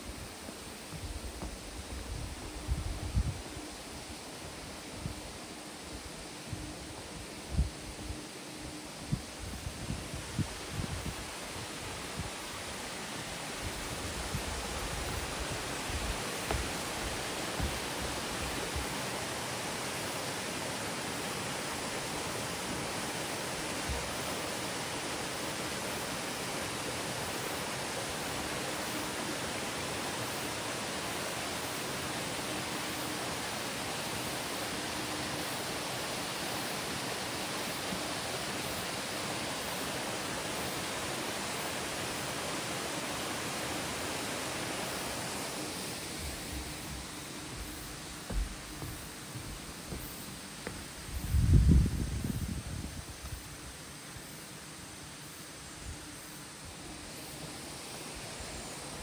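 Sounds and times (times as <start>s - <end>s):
waterfall rushing: 3.3s - 51.2s.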